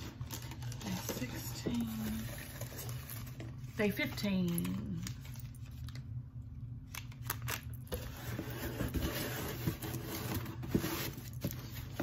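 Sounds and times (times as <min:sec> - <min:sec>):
packaging rustling and scraping: 0:00.0 - 0:06.0, 0:07.2 - 0:12.0.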